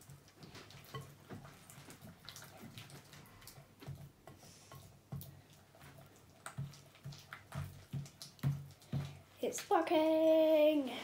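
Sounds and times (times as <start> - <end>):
slime squelching: 0.0 - 10.2.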